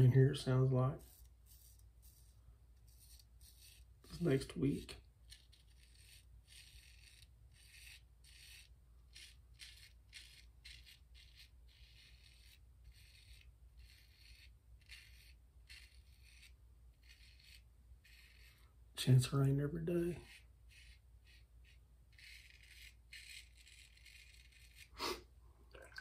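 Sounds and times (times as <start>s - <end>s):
razor scraping stubble: 0.0s - 25.3s.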